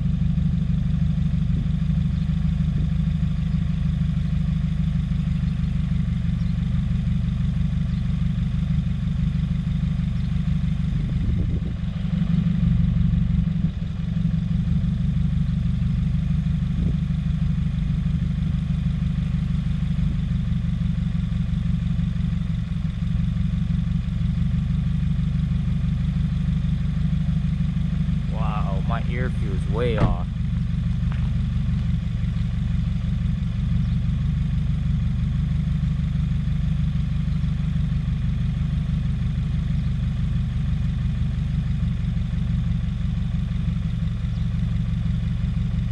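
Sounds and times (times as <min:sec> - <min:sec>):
car engine idling rough: 0:00.0 - 0:45.9.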